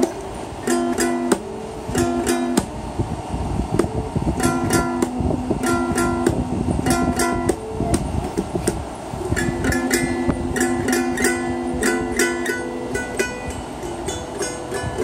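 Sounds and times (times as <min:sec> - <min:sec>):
toy acoustic guitar strummed: 0:00.0 - 0:15.0.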